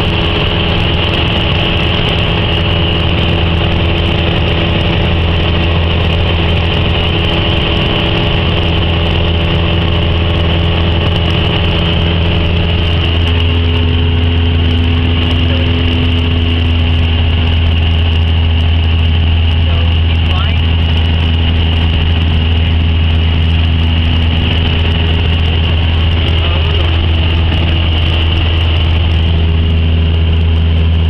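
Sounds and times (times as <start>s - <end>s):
propeller plane engine drone: 0.0s - 31.0s.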